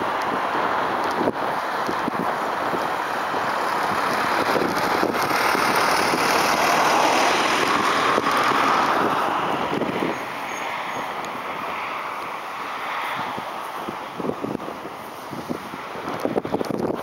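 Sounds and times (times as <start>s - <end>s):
road traffic passing: 0.0s - 17.0s
wind on microphone: 0.0s - 17.0s.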